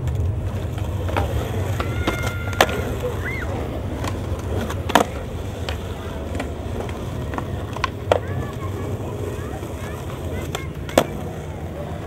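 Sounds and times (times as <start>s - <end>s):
skateboard clacks: 0.0s - 12.0s
skateboard wheels rolling on asphalt: 0.0s - 12.0s.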